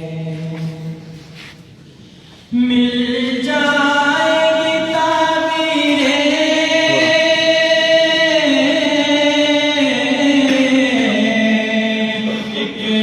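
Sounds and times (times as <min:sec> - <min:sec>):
layered choir-like vocals: 0:02.5 - 0:13.0
person singing long held notes: 0:02.5 - 0:13.0.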